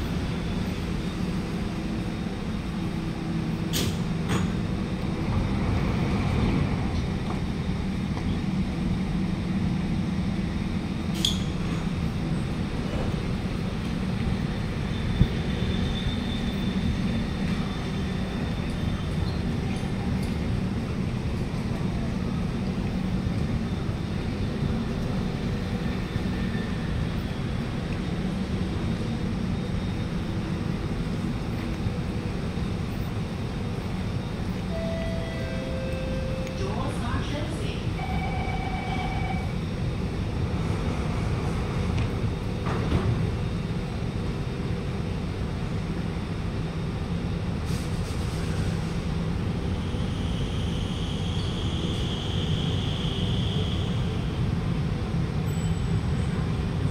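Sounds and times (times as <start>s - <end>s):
metro train hum and rumble: 0.0s - 56.9s.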